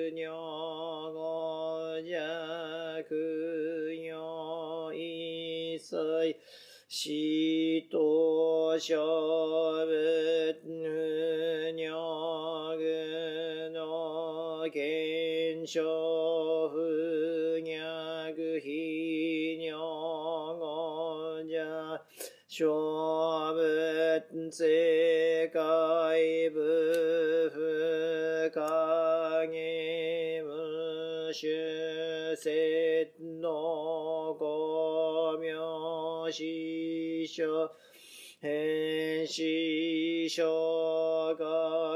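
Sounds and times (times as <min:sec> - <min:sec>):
man chanting: 0:00.0 - 0:37.8, 0:38.4 - 0:41.9.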